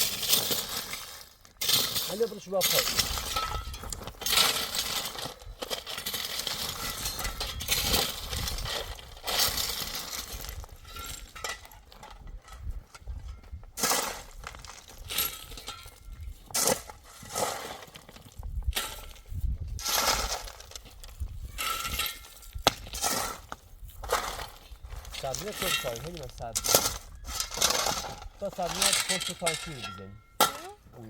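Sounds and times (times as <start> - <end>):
hard objects clattering: 0.0 - 31.0.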